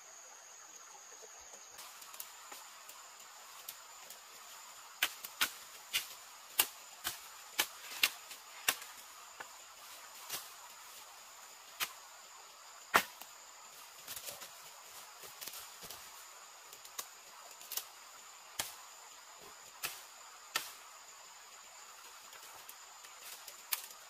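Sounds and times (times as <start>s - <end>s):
high insect trill: 0.0s - 24.0s.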